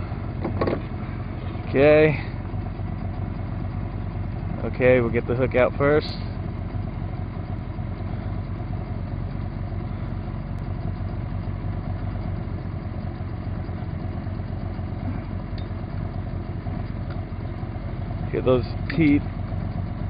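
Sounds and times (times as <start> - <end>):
outboard motor idling: 0.0 - 20.0.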